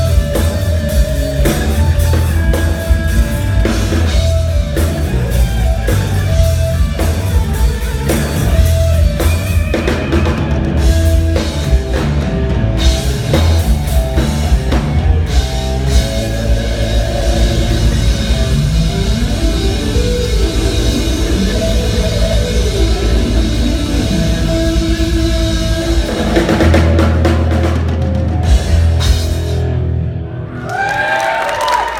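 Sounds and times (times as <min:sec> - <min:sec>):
drum kit pounding: 0:00.0 - 0:30.0
electric guitar lines: 0:00.0 - 0:30.7.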